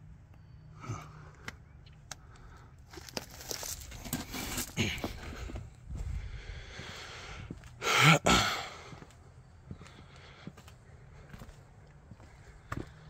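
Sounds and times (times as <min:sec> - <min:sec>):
footsteps on rough ground: 0:01.4 - 0:13.0.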